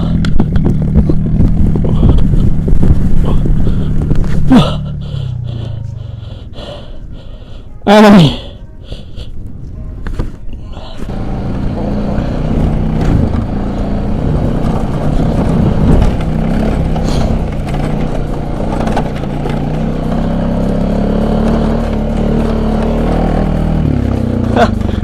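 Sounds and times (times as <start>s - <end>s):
atv engine running: 0.0s - 7.6s, 10.8s - 25.0s.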